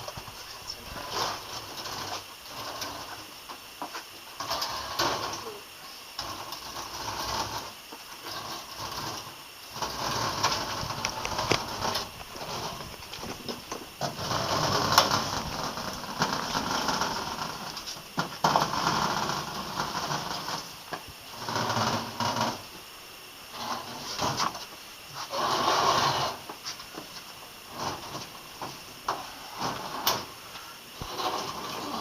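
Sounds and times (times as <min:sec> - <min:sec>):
washing machine scraping and rolling: 0:00.0 - 0:03.4, 0:04.0 - 0:05.5, 0:06.2 - 0:22.7, 0:23.5 - 0:26.8, 0:27.7 - 0:32.0.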